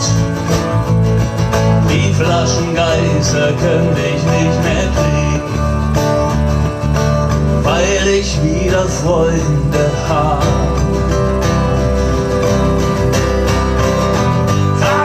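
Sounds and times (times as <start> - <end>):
electric bass: 0.0 - 15.0
strummed acoustic guitars: 0.0 - 15.0.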